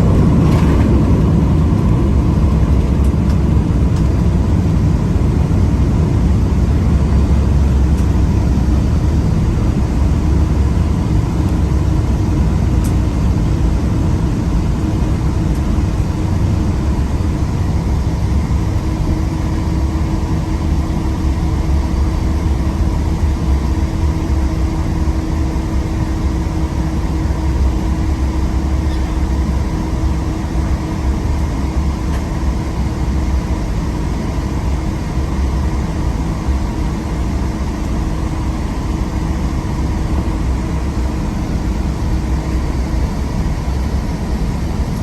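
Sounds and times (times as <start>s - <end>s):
aircraft engine and airflow rumble: 0.0s - 45.0s.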